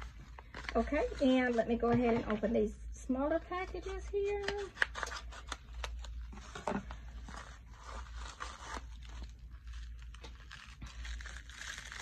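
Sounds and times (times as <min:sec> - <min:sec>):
plastic packaging crinkling: 0:00.0 - 0:02.5, 0:03.5 - 0:12.0.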